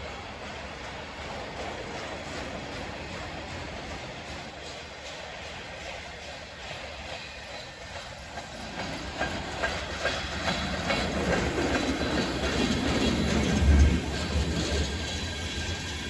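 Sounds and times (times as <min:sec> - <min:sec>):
freight train rumble: 0:00.0 - 0:16.0
train wheels clicking over rail joints: 0:00.0 - 0:16.0.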